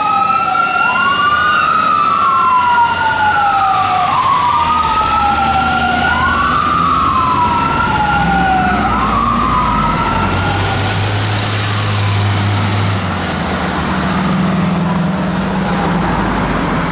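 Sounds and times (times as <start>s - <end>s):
fire truck sirens wailing: 0.0s - 16.9s
heavy engine noise: 0.0s - 16.9s
steady traffic: 0.0s - 16.9s.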